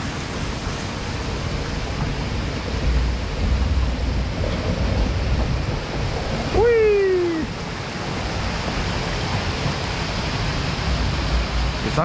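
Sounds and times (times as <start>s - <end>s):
water rushing around boat: 0.0s - 12.0s
wind rumbling on microphone: 0.0s - 12.0s.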